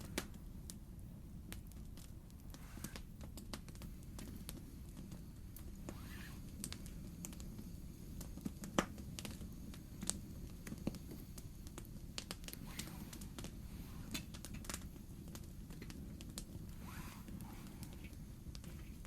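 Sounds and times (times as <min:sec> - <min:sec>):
campfire crackling and popping: 0:00.0 - 0:19.0
steady low rumble: 0:03.1 - 0:19.0.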